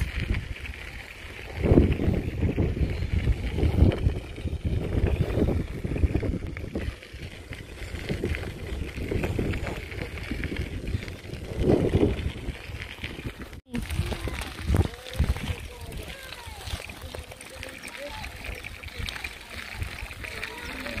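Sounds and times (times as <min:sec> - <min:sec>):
bicycle tyres rolling: 0:00.0 - 0:21.0
wind buffeting microphone: 0:00.0 - 0:21.0.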